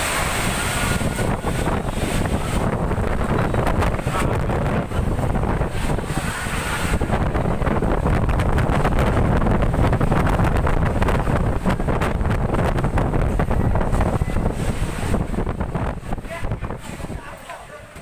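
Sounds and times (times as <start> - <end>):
storm wind on microphone: 0.0 - 18.0.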